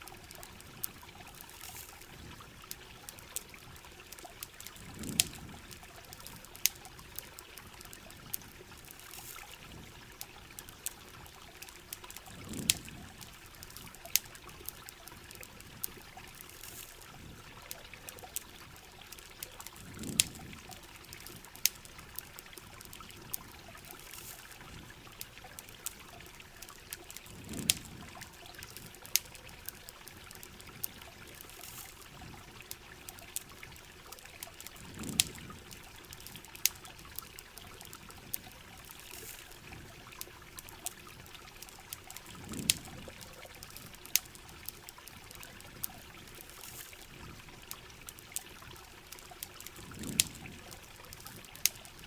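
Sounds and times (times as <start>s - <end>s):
campfire crackling pops: 0.0s - 52.0s
running water: 0.0s - 52.0s.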